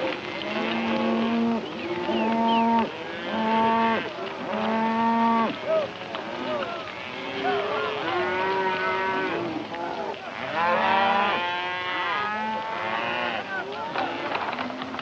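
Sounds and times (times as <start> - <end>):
cattle lowing and bawling: 0.0 - 15.0.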